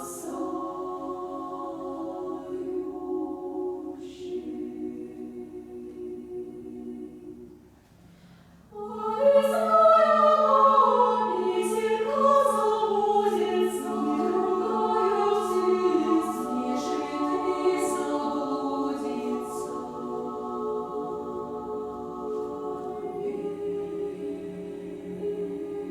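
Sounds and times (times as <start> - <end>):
women's choir singing: 0.0 - 7.7, 8.7 - 25.9.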